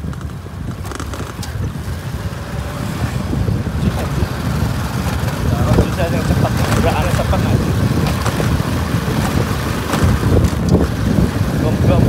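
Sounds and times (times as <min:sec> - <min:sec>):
low rumble of vehicle ride: 0:00.0 - 0:12.0
wind buffeting microphone: 0:00.0 - 0:12.0.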